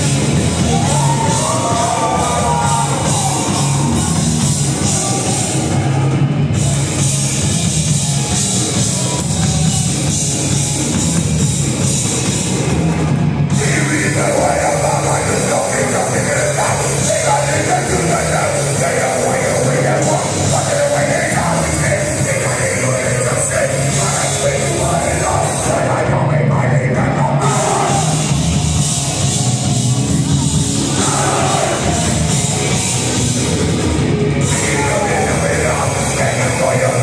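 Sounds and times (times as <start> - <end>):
distorted guitars: 0.0 - 37.0
drums: 0.0 - 37.0.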